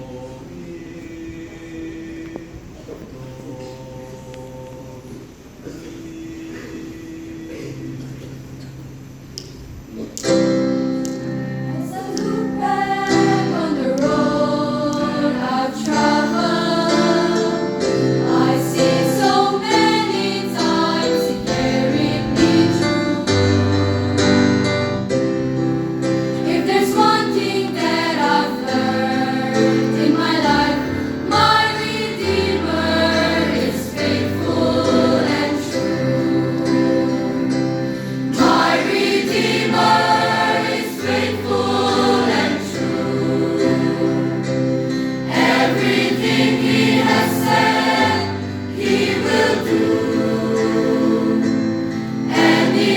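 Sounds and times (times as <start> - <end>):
choir singing: 0.0 - 8.2, 11.7 - 24.7, 26.0 - 52.9.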